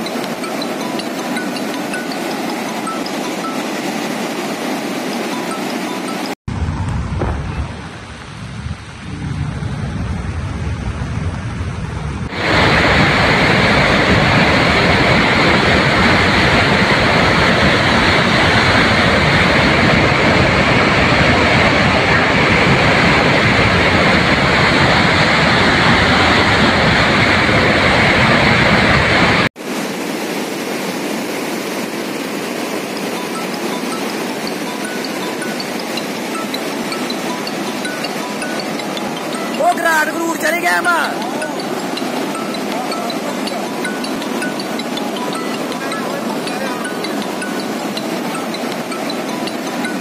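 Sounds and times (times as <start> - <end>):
rushing floodwater: 0.0 - 6.4, 12.3 - 50.0.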